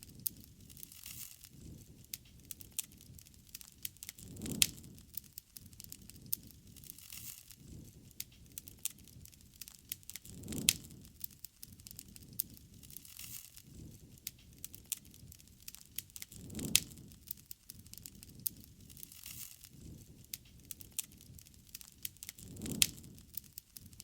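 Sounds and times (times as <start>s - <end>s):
low rumble of flame: 0.0s - 24.0s
wood fire crackling and popping: 0.0s - 24.0s.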